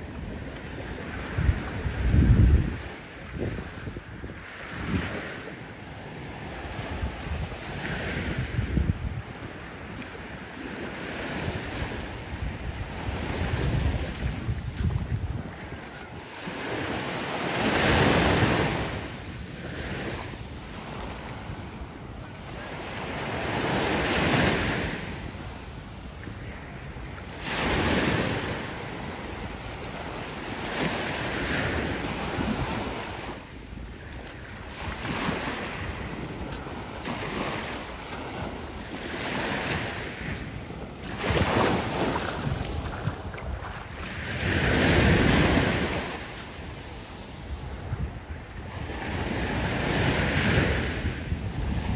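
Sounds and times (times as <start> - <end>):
waves washing up a sandy shore: 0.0 - 51.9.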